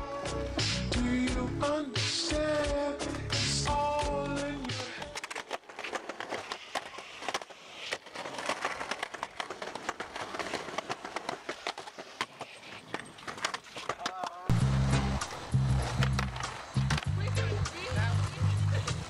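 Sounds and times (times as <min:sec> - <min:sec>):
skateboard wheels rolling on pavement: 0:00.0 - 0:19.0
skateboard clacks and knocks: 0:02.8 - 0:19.0.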